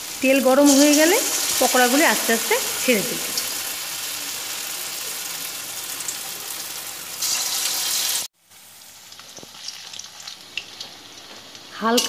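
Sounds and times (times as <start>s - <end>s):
batter deep-frying in oil: 0.0s - 12.0s.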